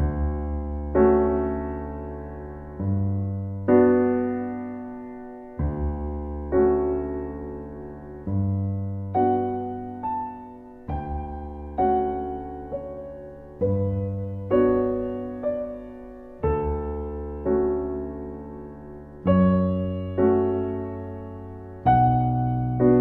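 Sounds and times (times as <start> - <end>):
slow solo piano music: 0.0 - 23.0.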